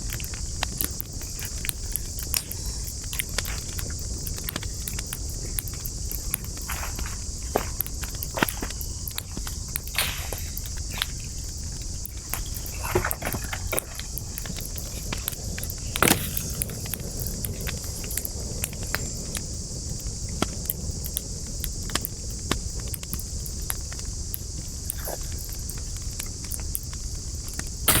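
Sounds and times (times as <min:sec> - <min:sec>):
campfire crackling and popping: 0:00.0 - 0:28.0
steady high hiss: 0:00.0 - 0:28.0.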